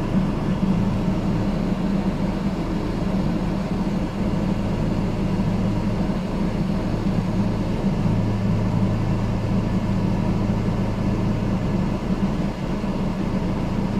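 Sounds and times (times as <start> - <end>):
engine idling: 0.0 - 13.9.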